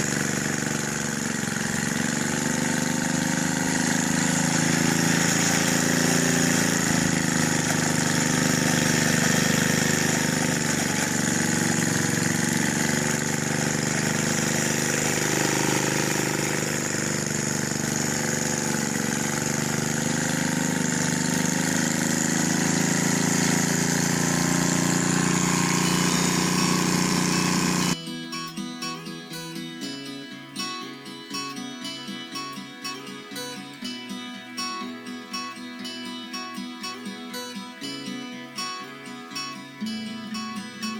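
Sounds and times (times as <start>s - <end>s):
small tiller engine running: 0.0s - 29.8s, 31.4s - 40.9s.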